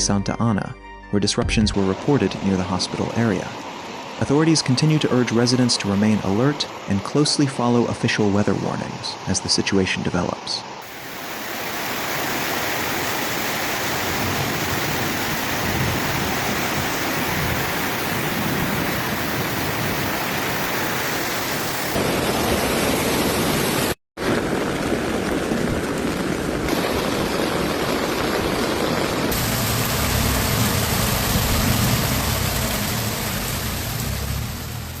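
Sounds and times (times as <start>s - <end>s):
running floodwater: 1.8s - 10.0s, 10.8s - 23.9s, 26.7s - 35.0s
heavy rain downpour: 1.8s - 35.0s.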